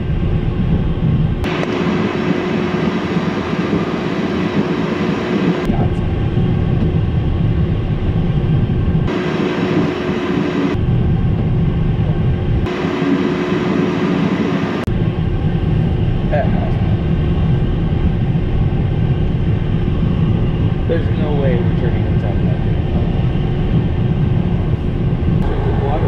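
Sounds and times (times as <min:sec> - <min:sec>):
deep rumble: 0:00.0 - 0:26.0
jet engines humming: 0:00.0 - 0:26.0.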